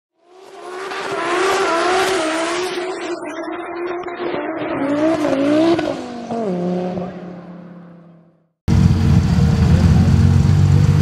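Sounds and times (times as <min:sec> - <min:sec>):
car engine at high revs: 0:00.2 - 0:11.0.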